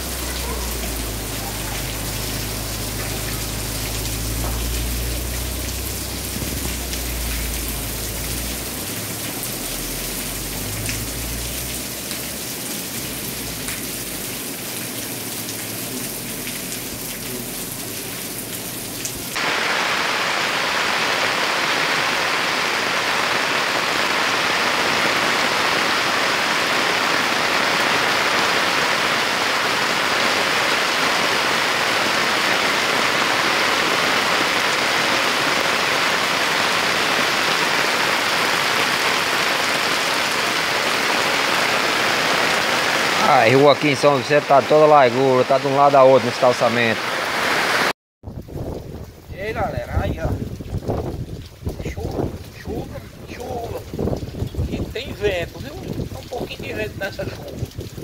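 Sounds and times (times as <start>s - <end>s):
rain on street and rooftops: 0.0s - 58.0s.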